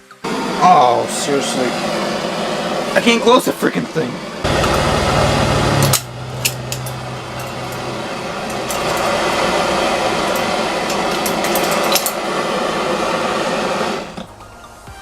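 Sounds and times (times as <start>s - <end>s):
propane torch hissing: 0.2s - 14.4s.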